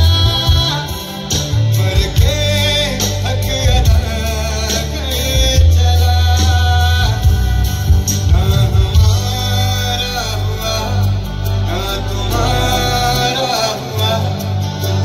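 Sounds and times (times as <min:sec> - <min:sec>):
live rock band music: 0:00.0 - 0:15.0
person singing: 0:00.0 - 0:15.0.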